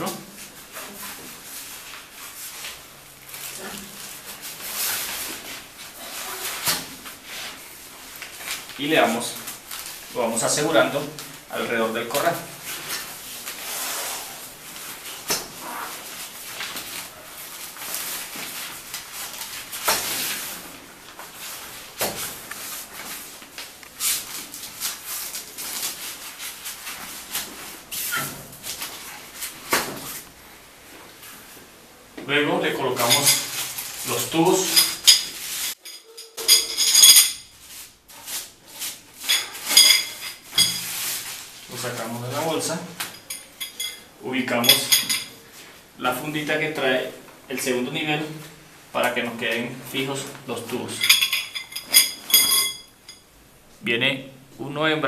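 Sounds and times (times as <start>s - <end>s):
nylon fabric rustling: 0.0s - 32.0s, 32.6s - 47.3s.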